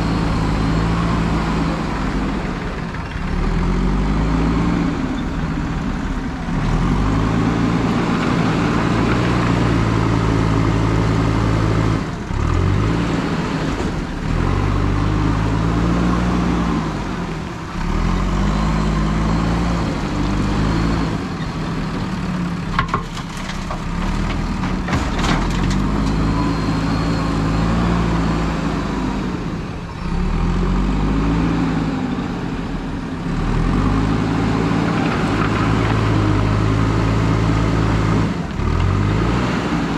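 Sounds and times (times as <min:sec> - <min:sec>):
backhoe diesel engine revving: 0:00.0 - 0:22.8, 0:23.6 - 0:39.9.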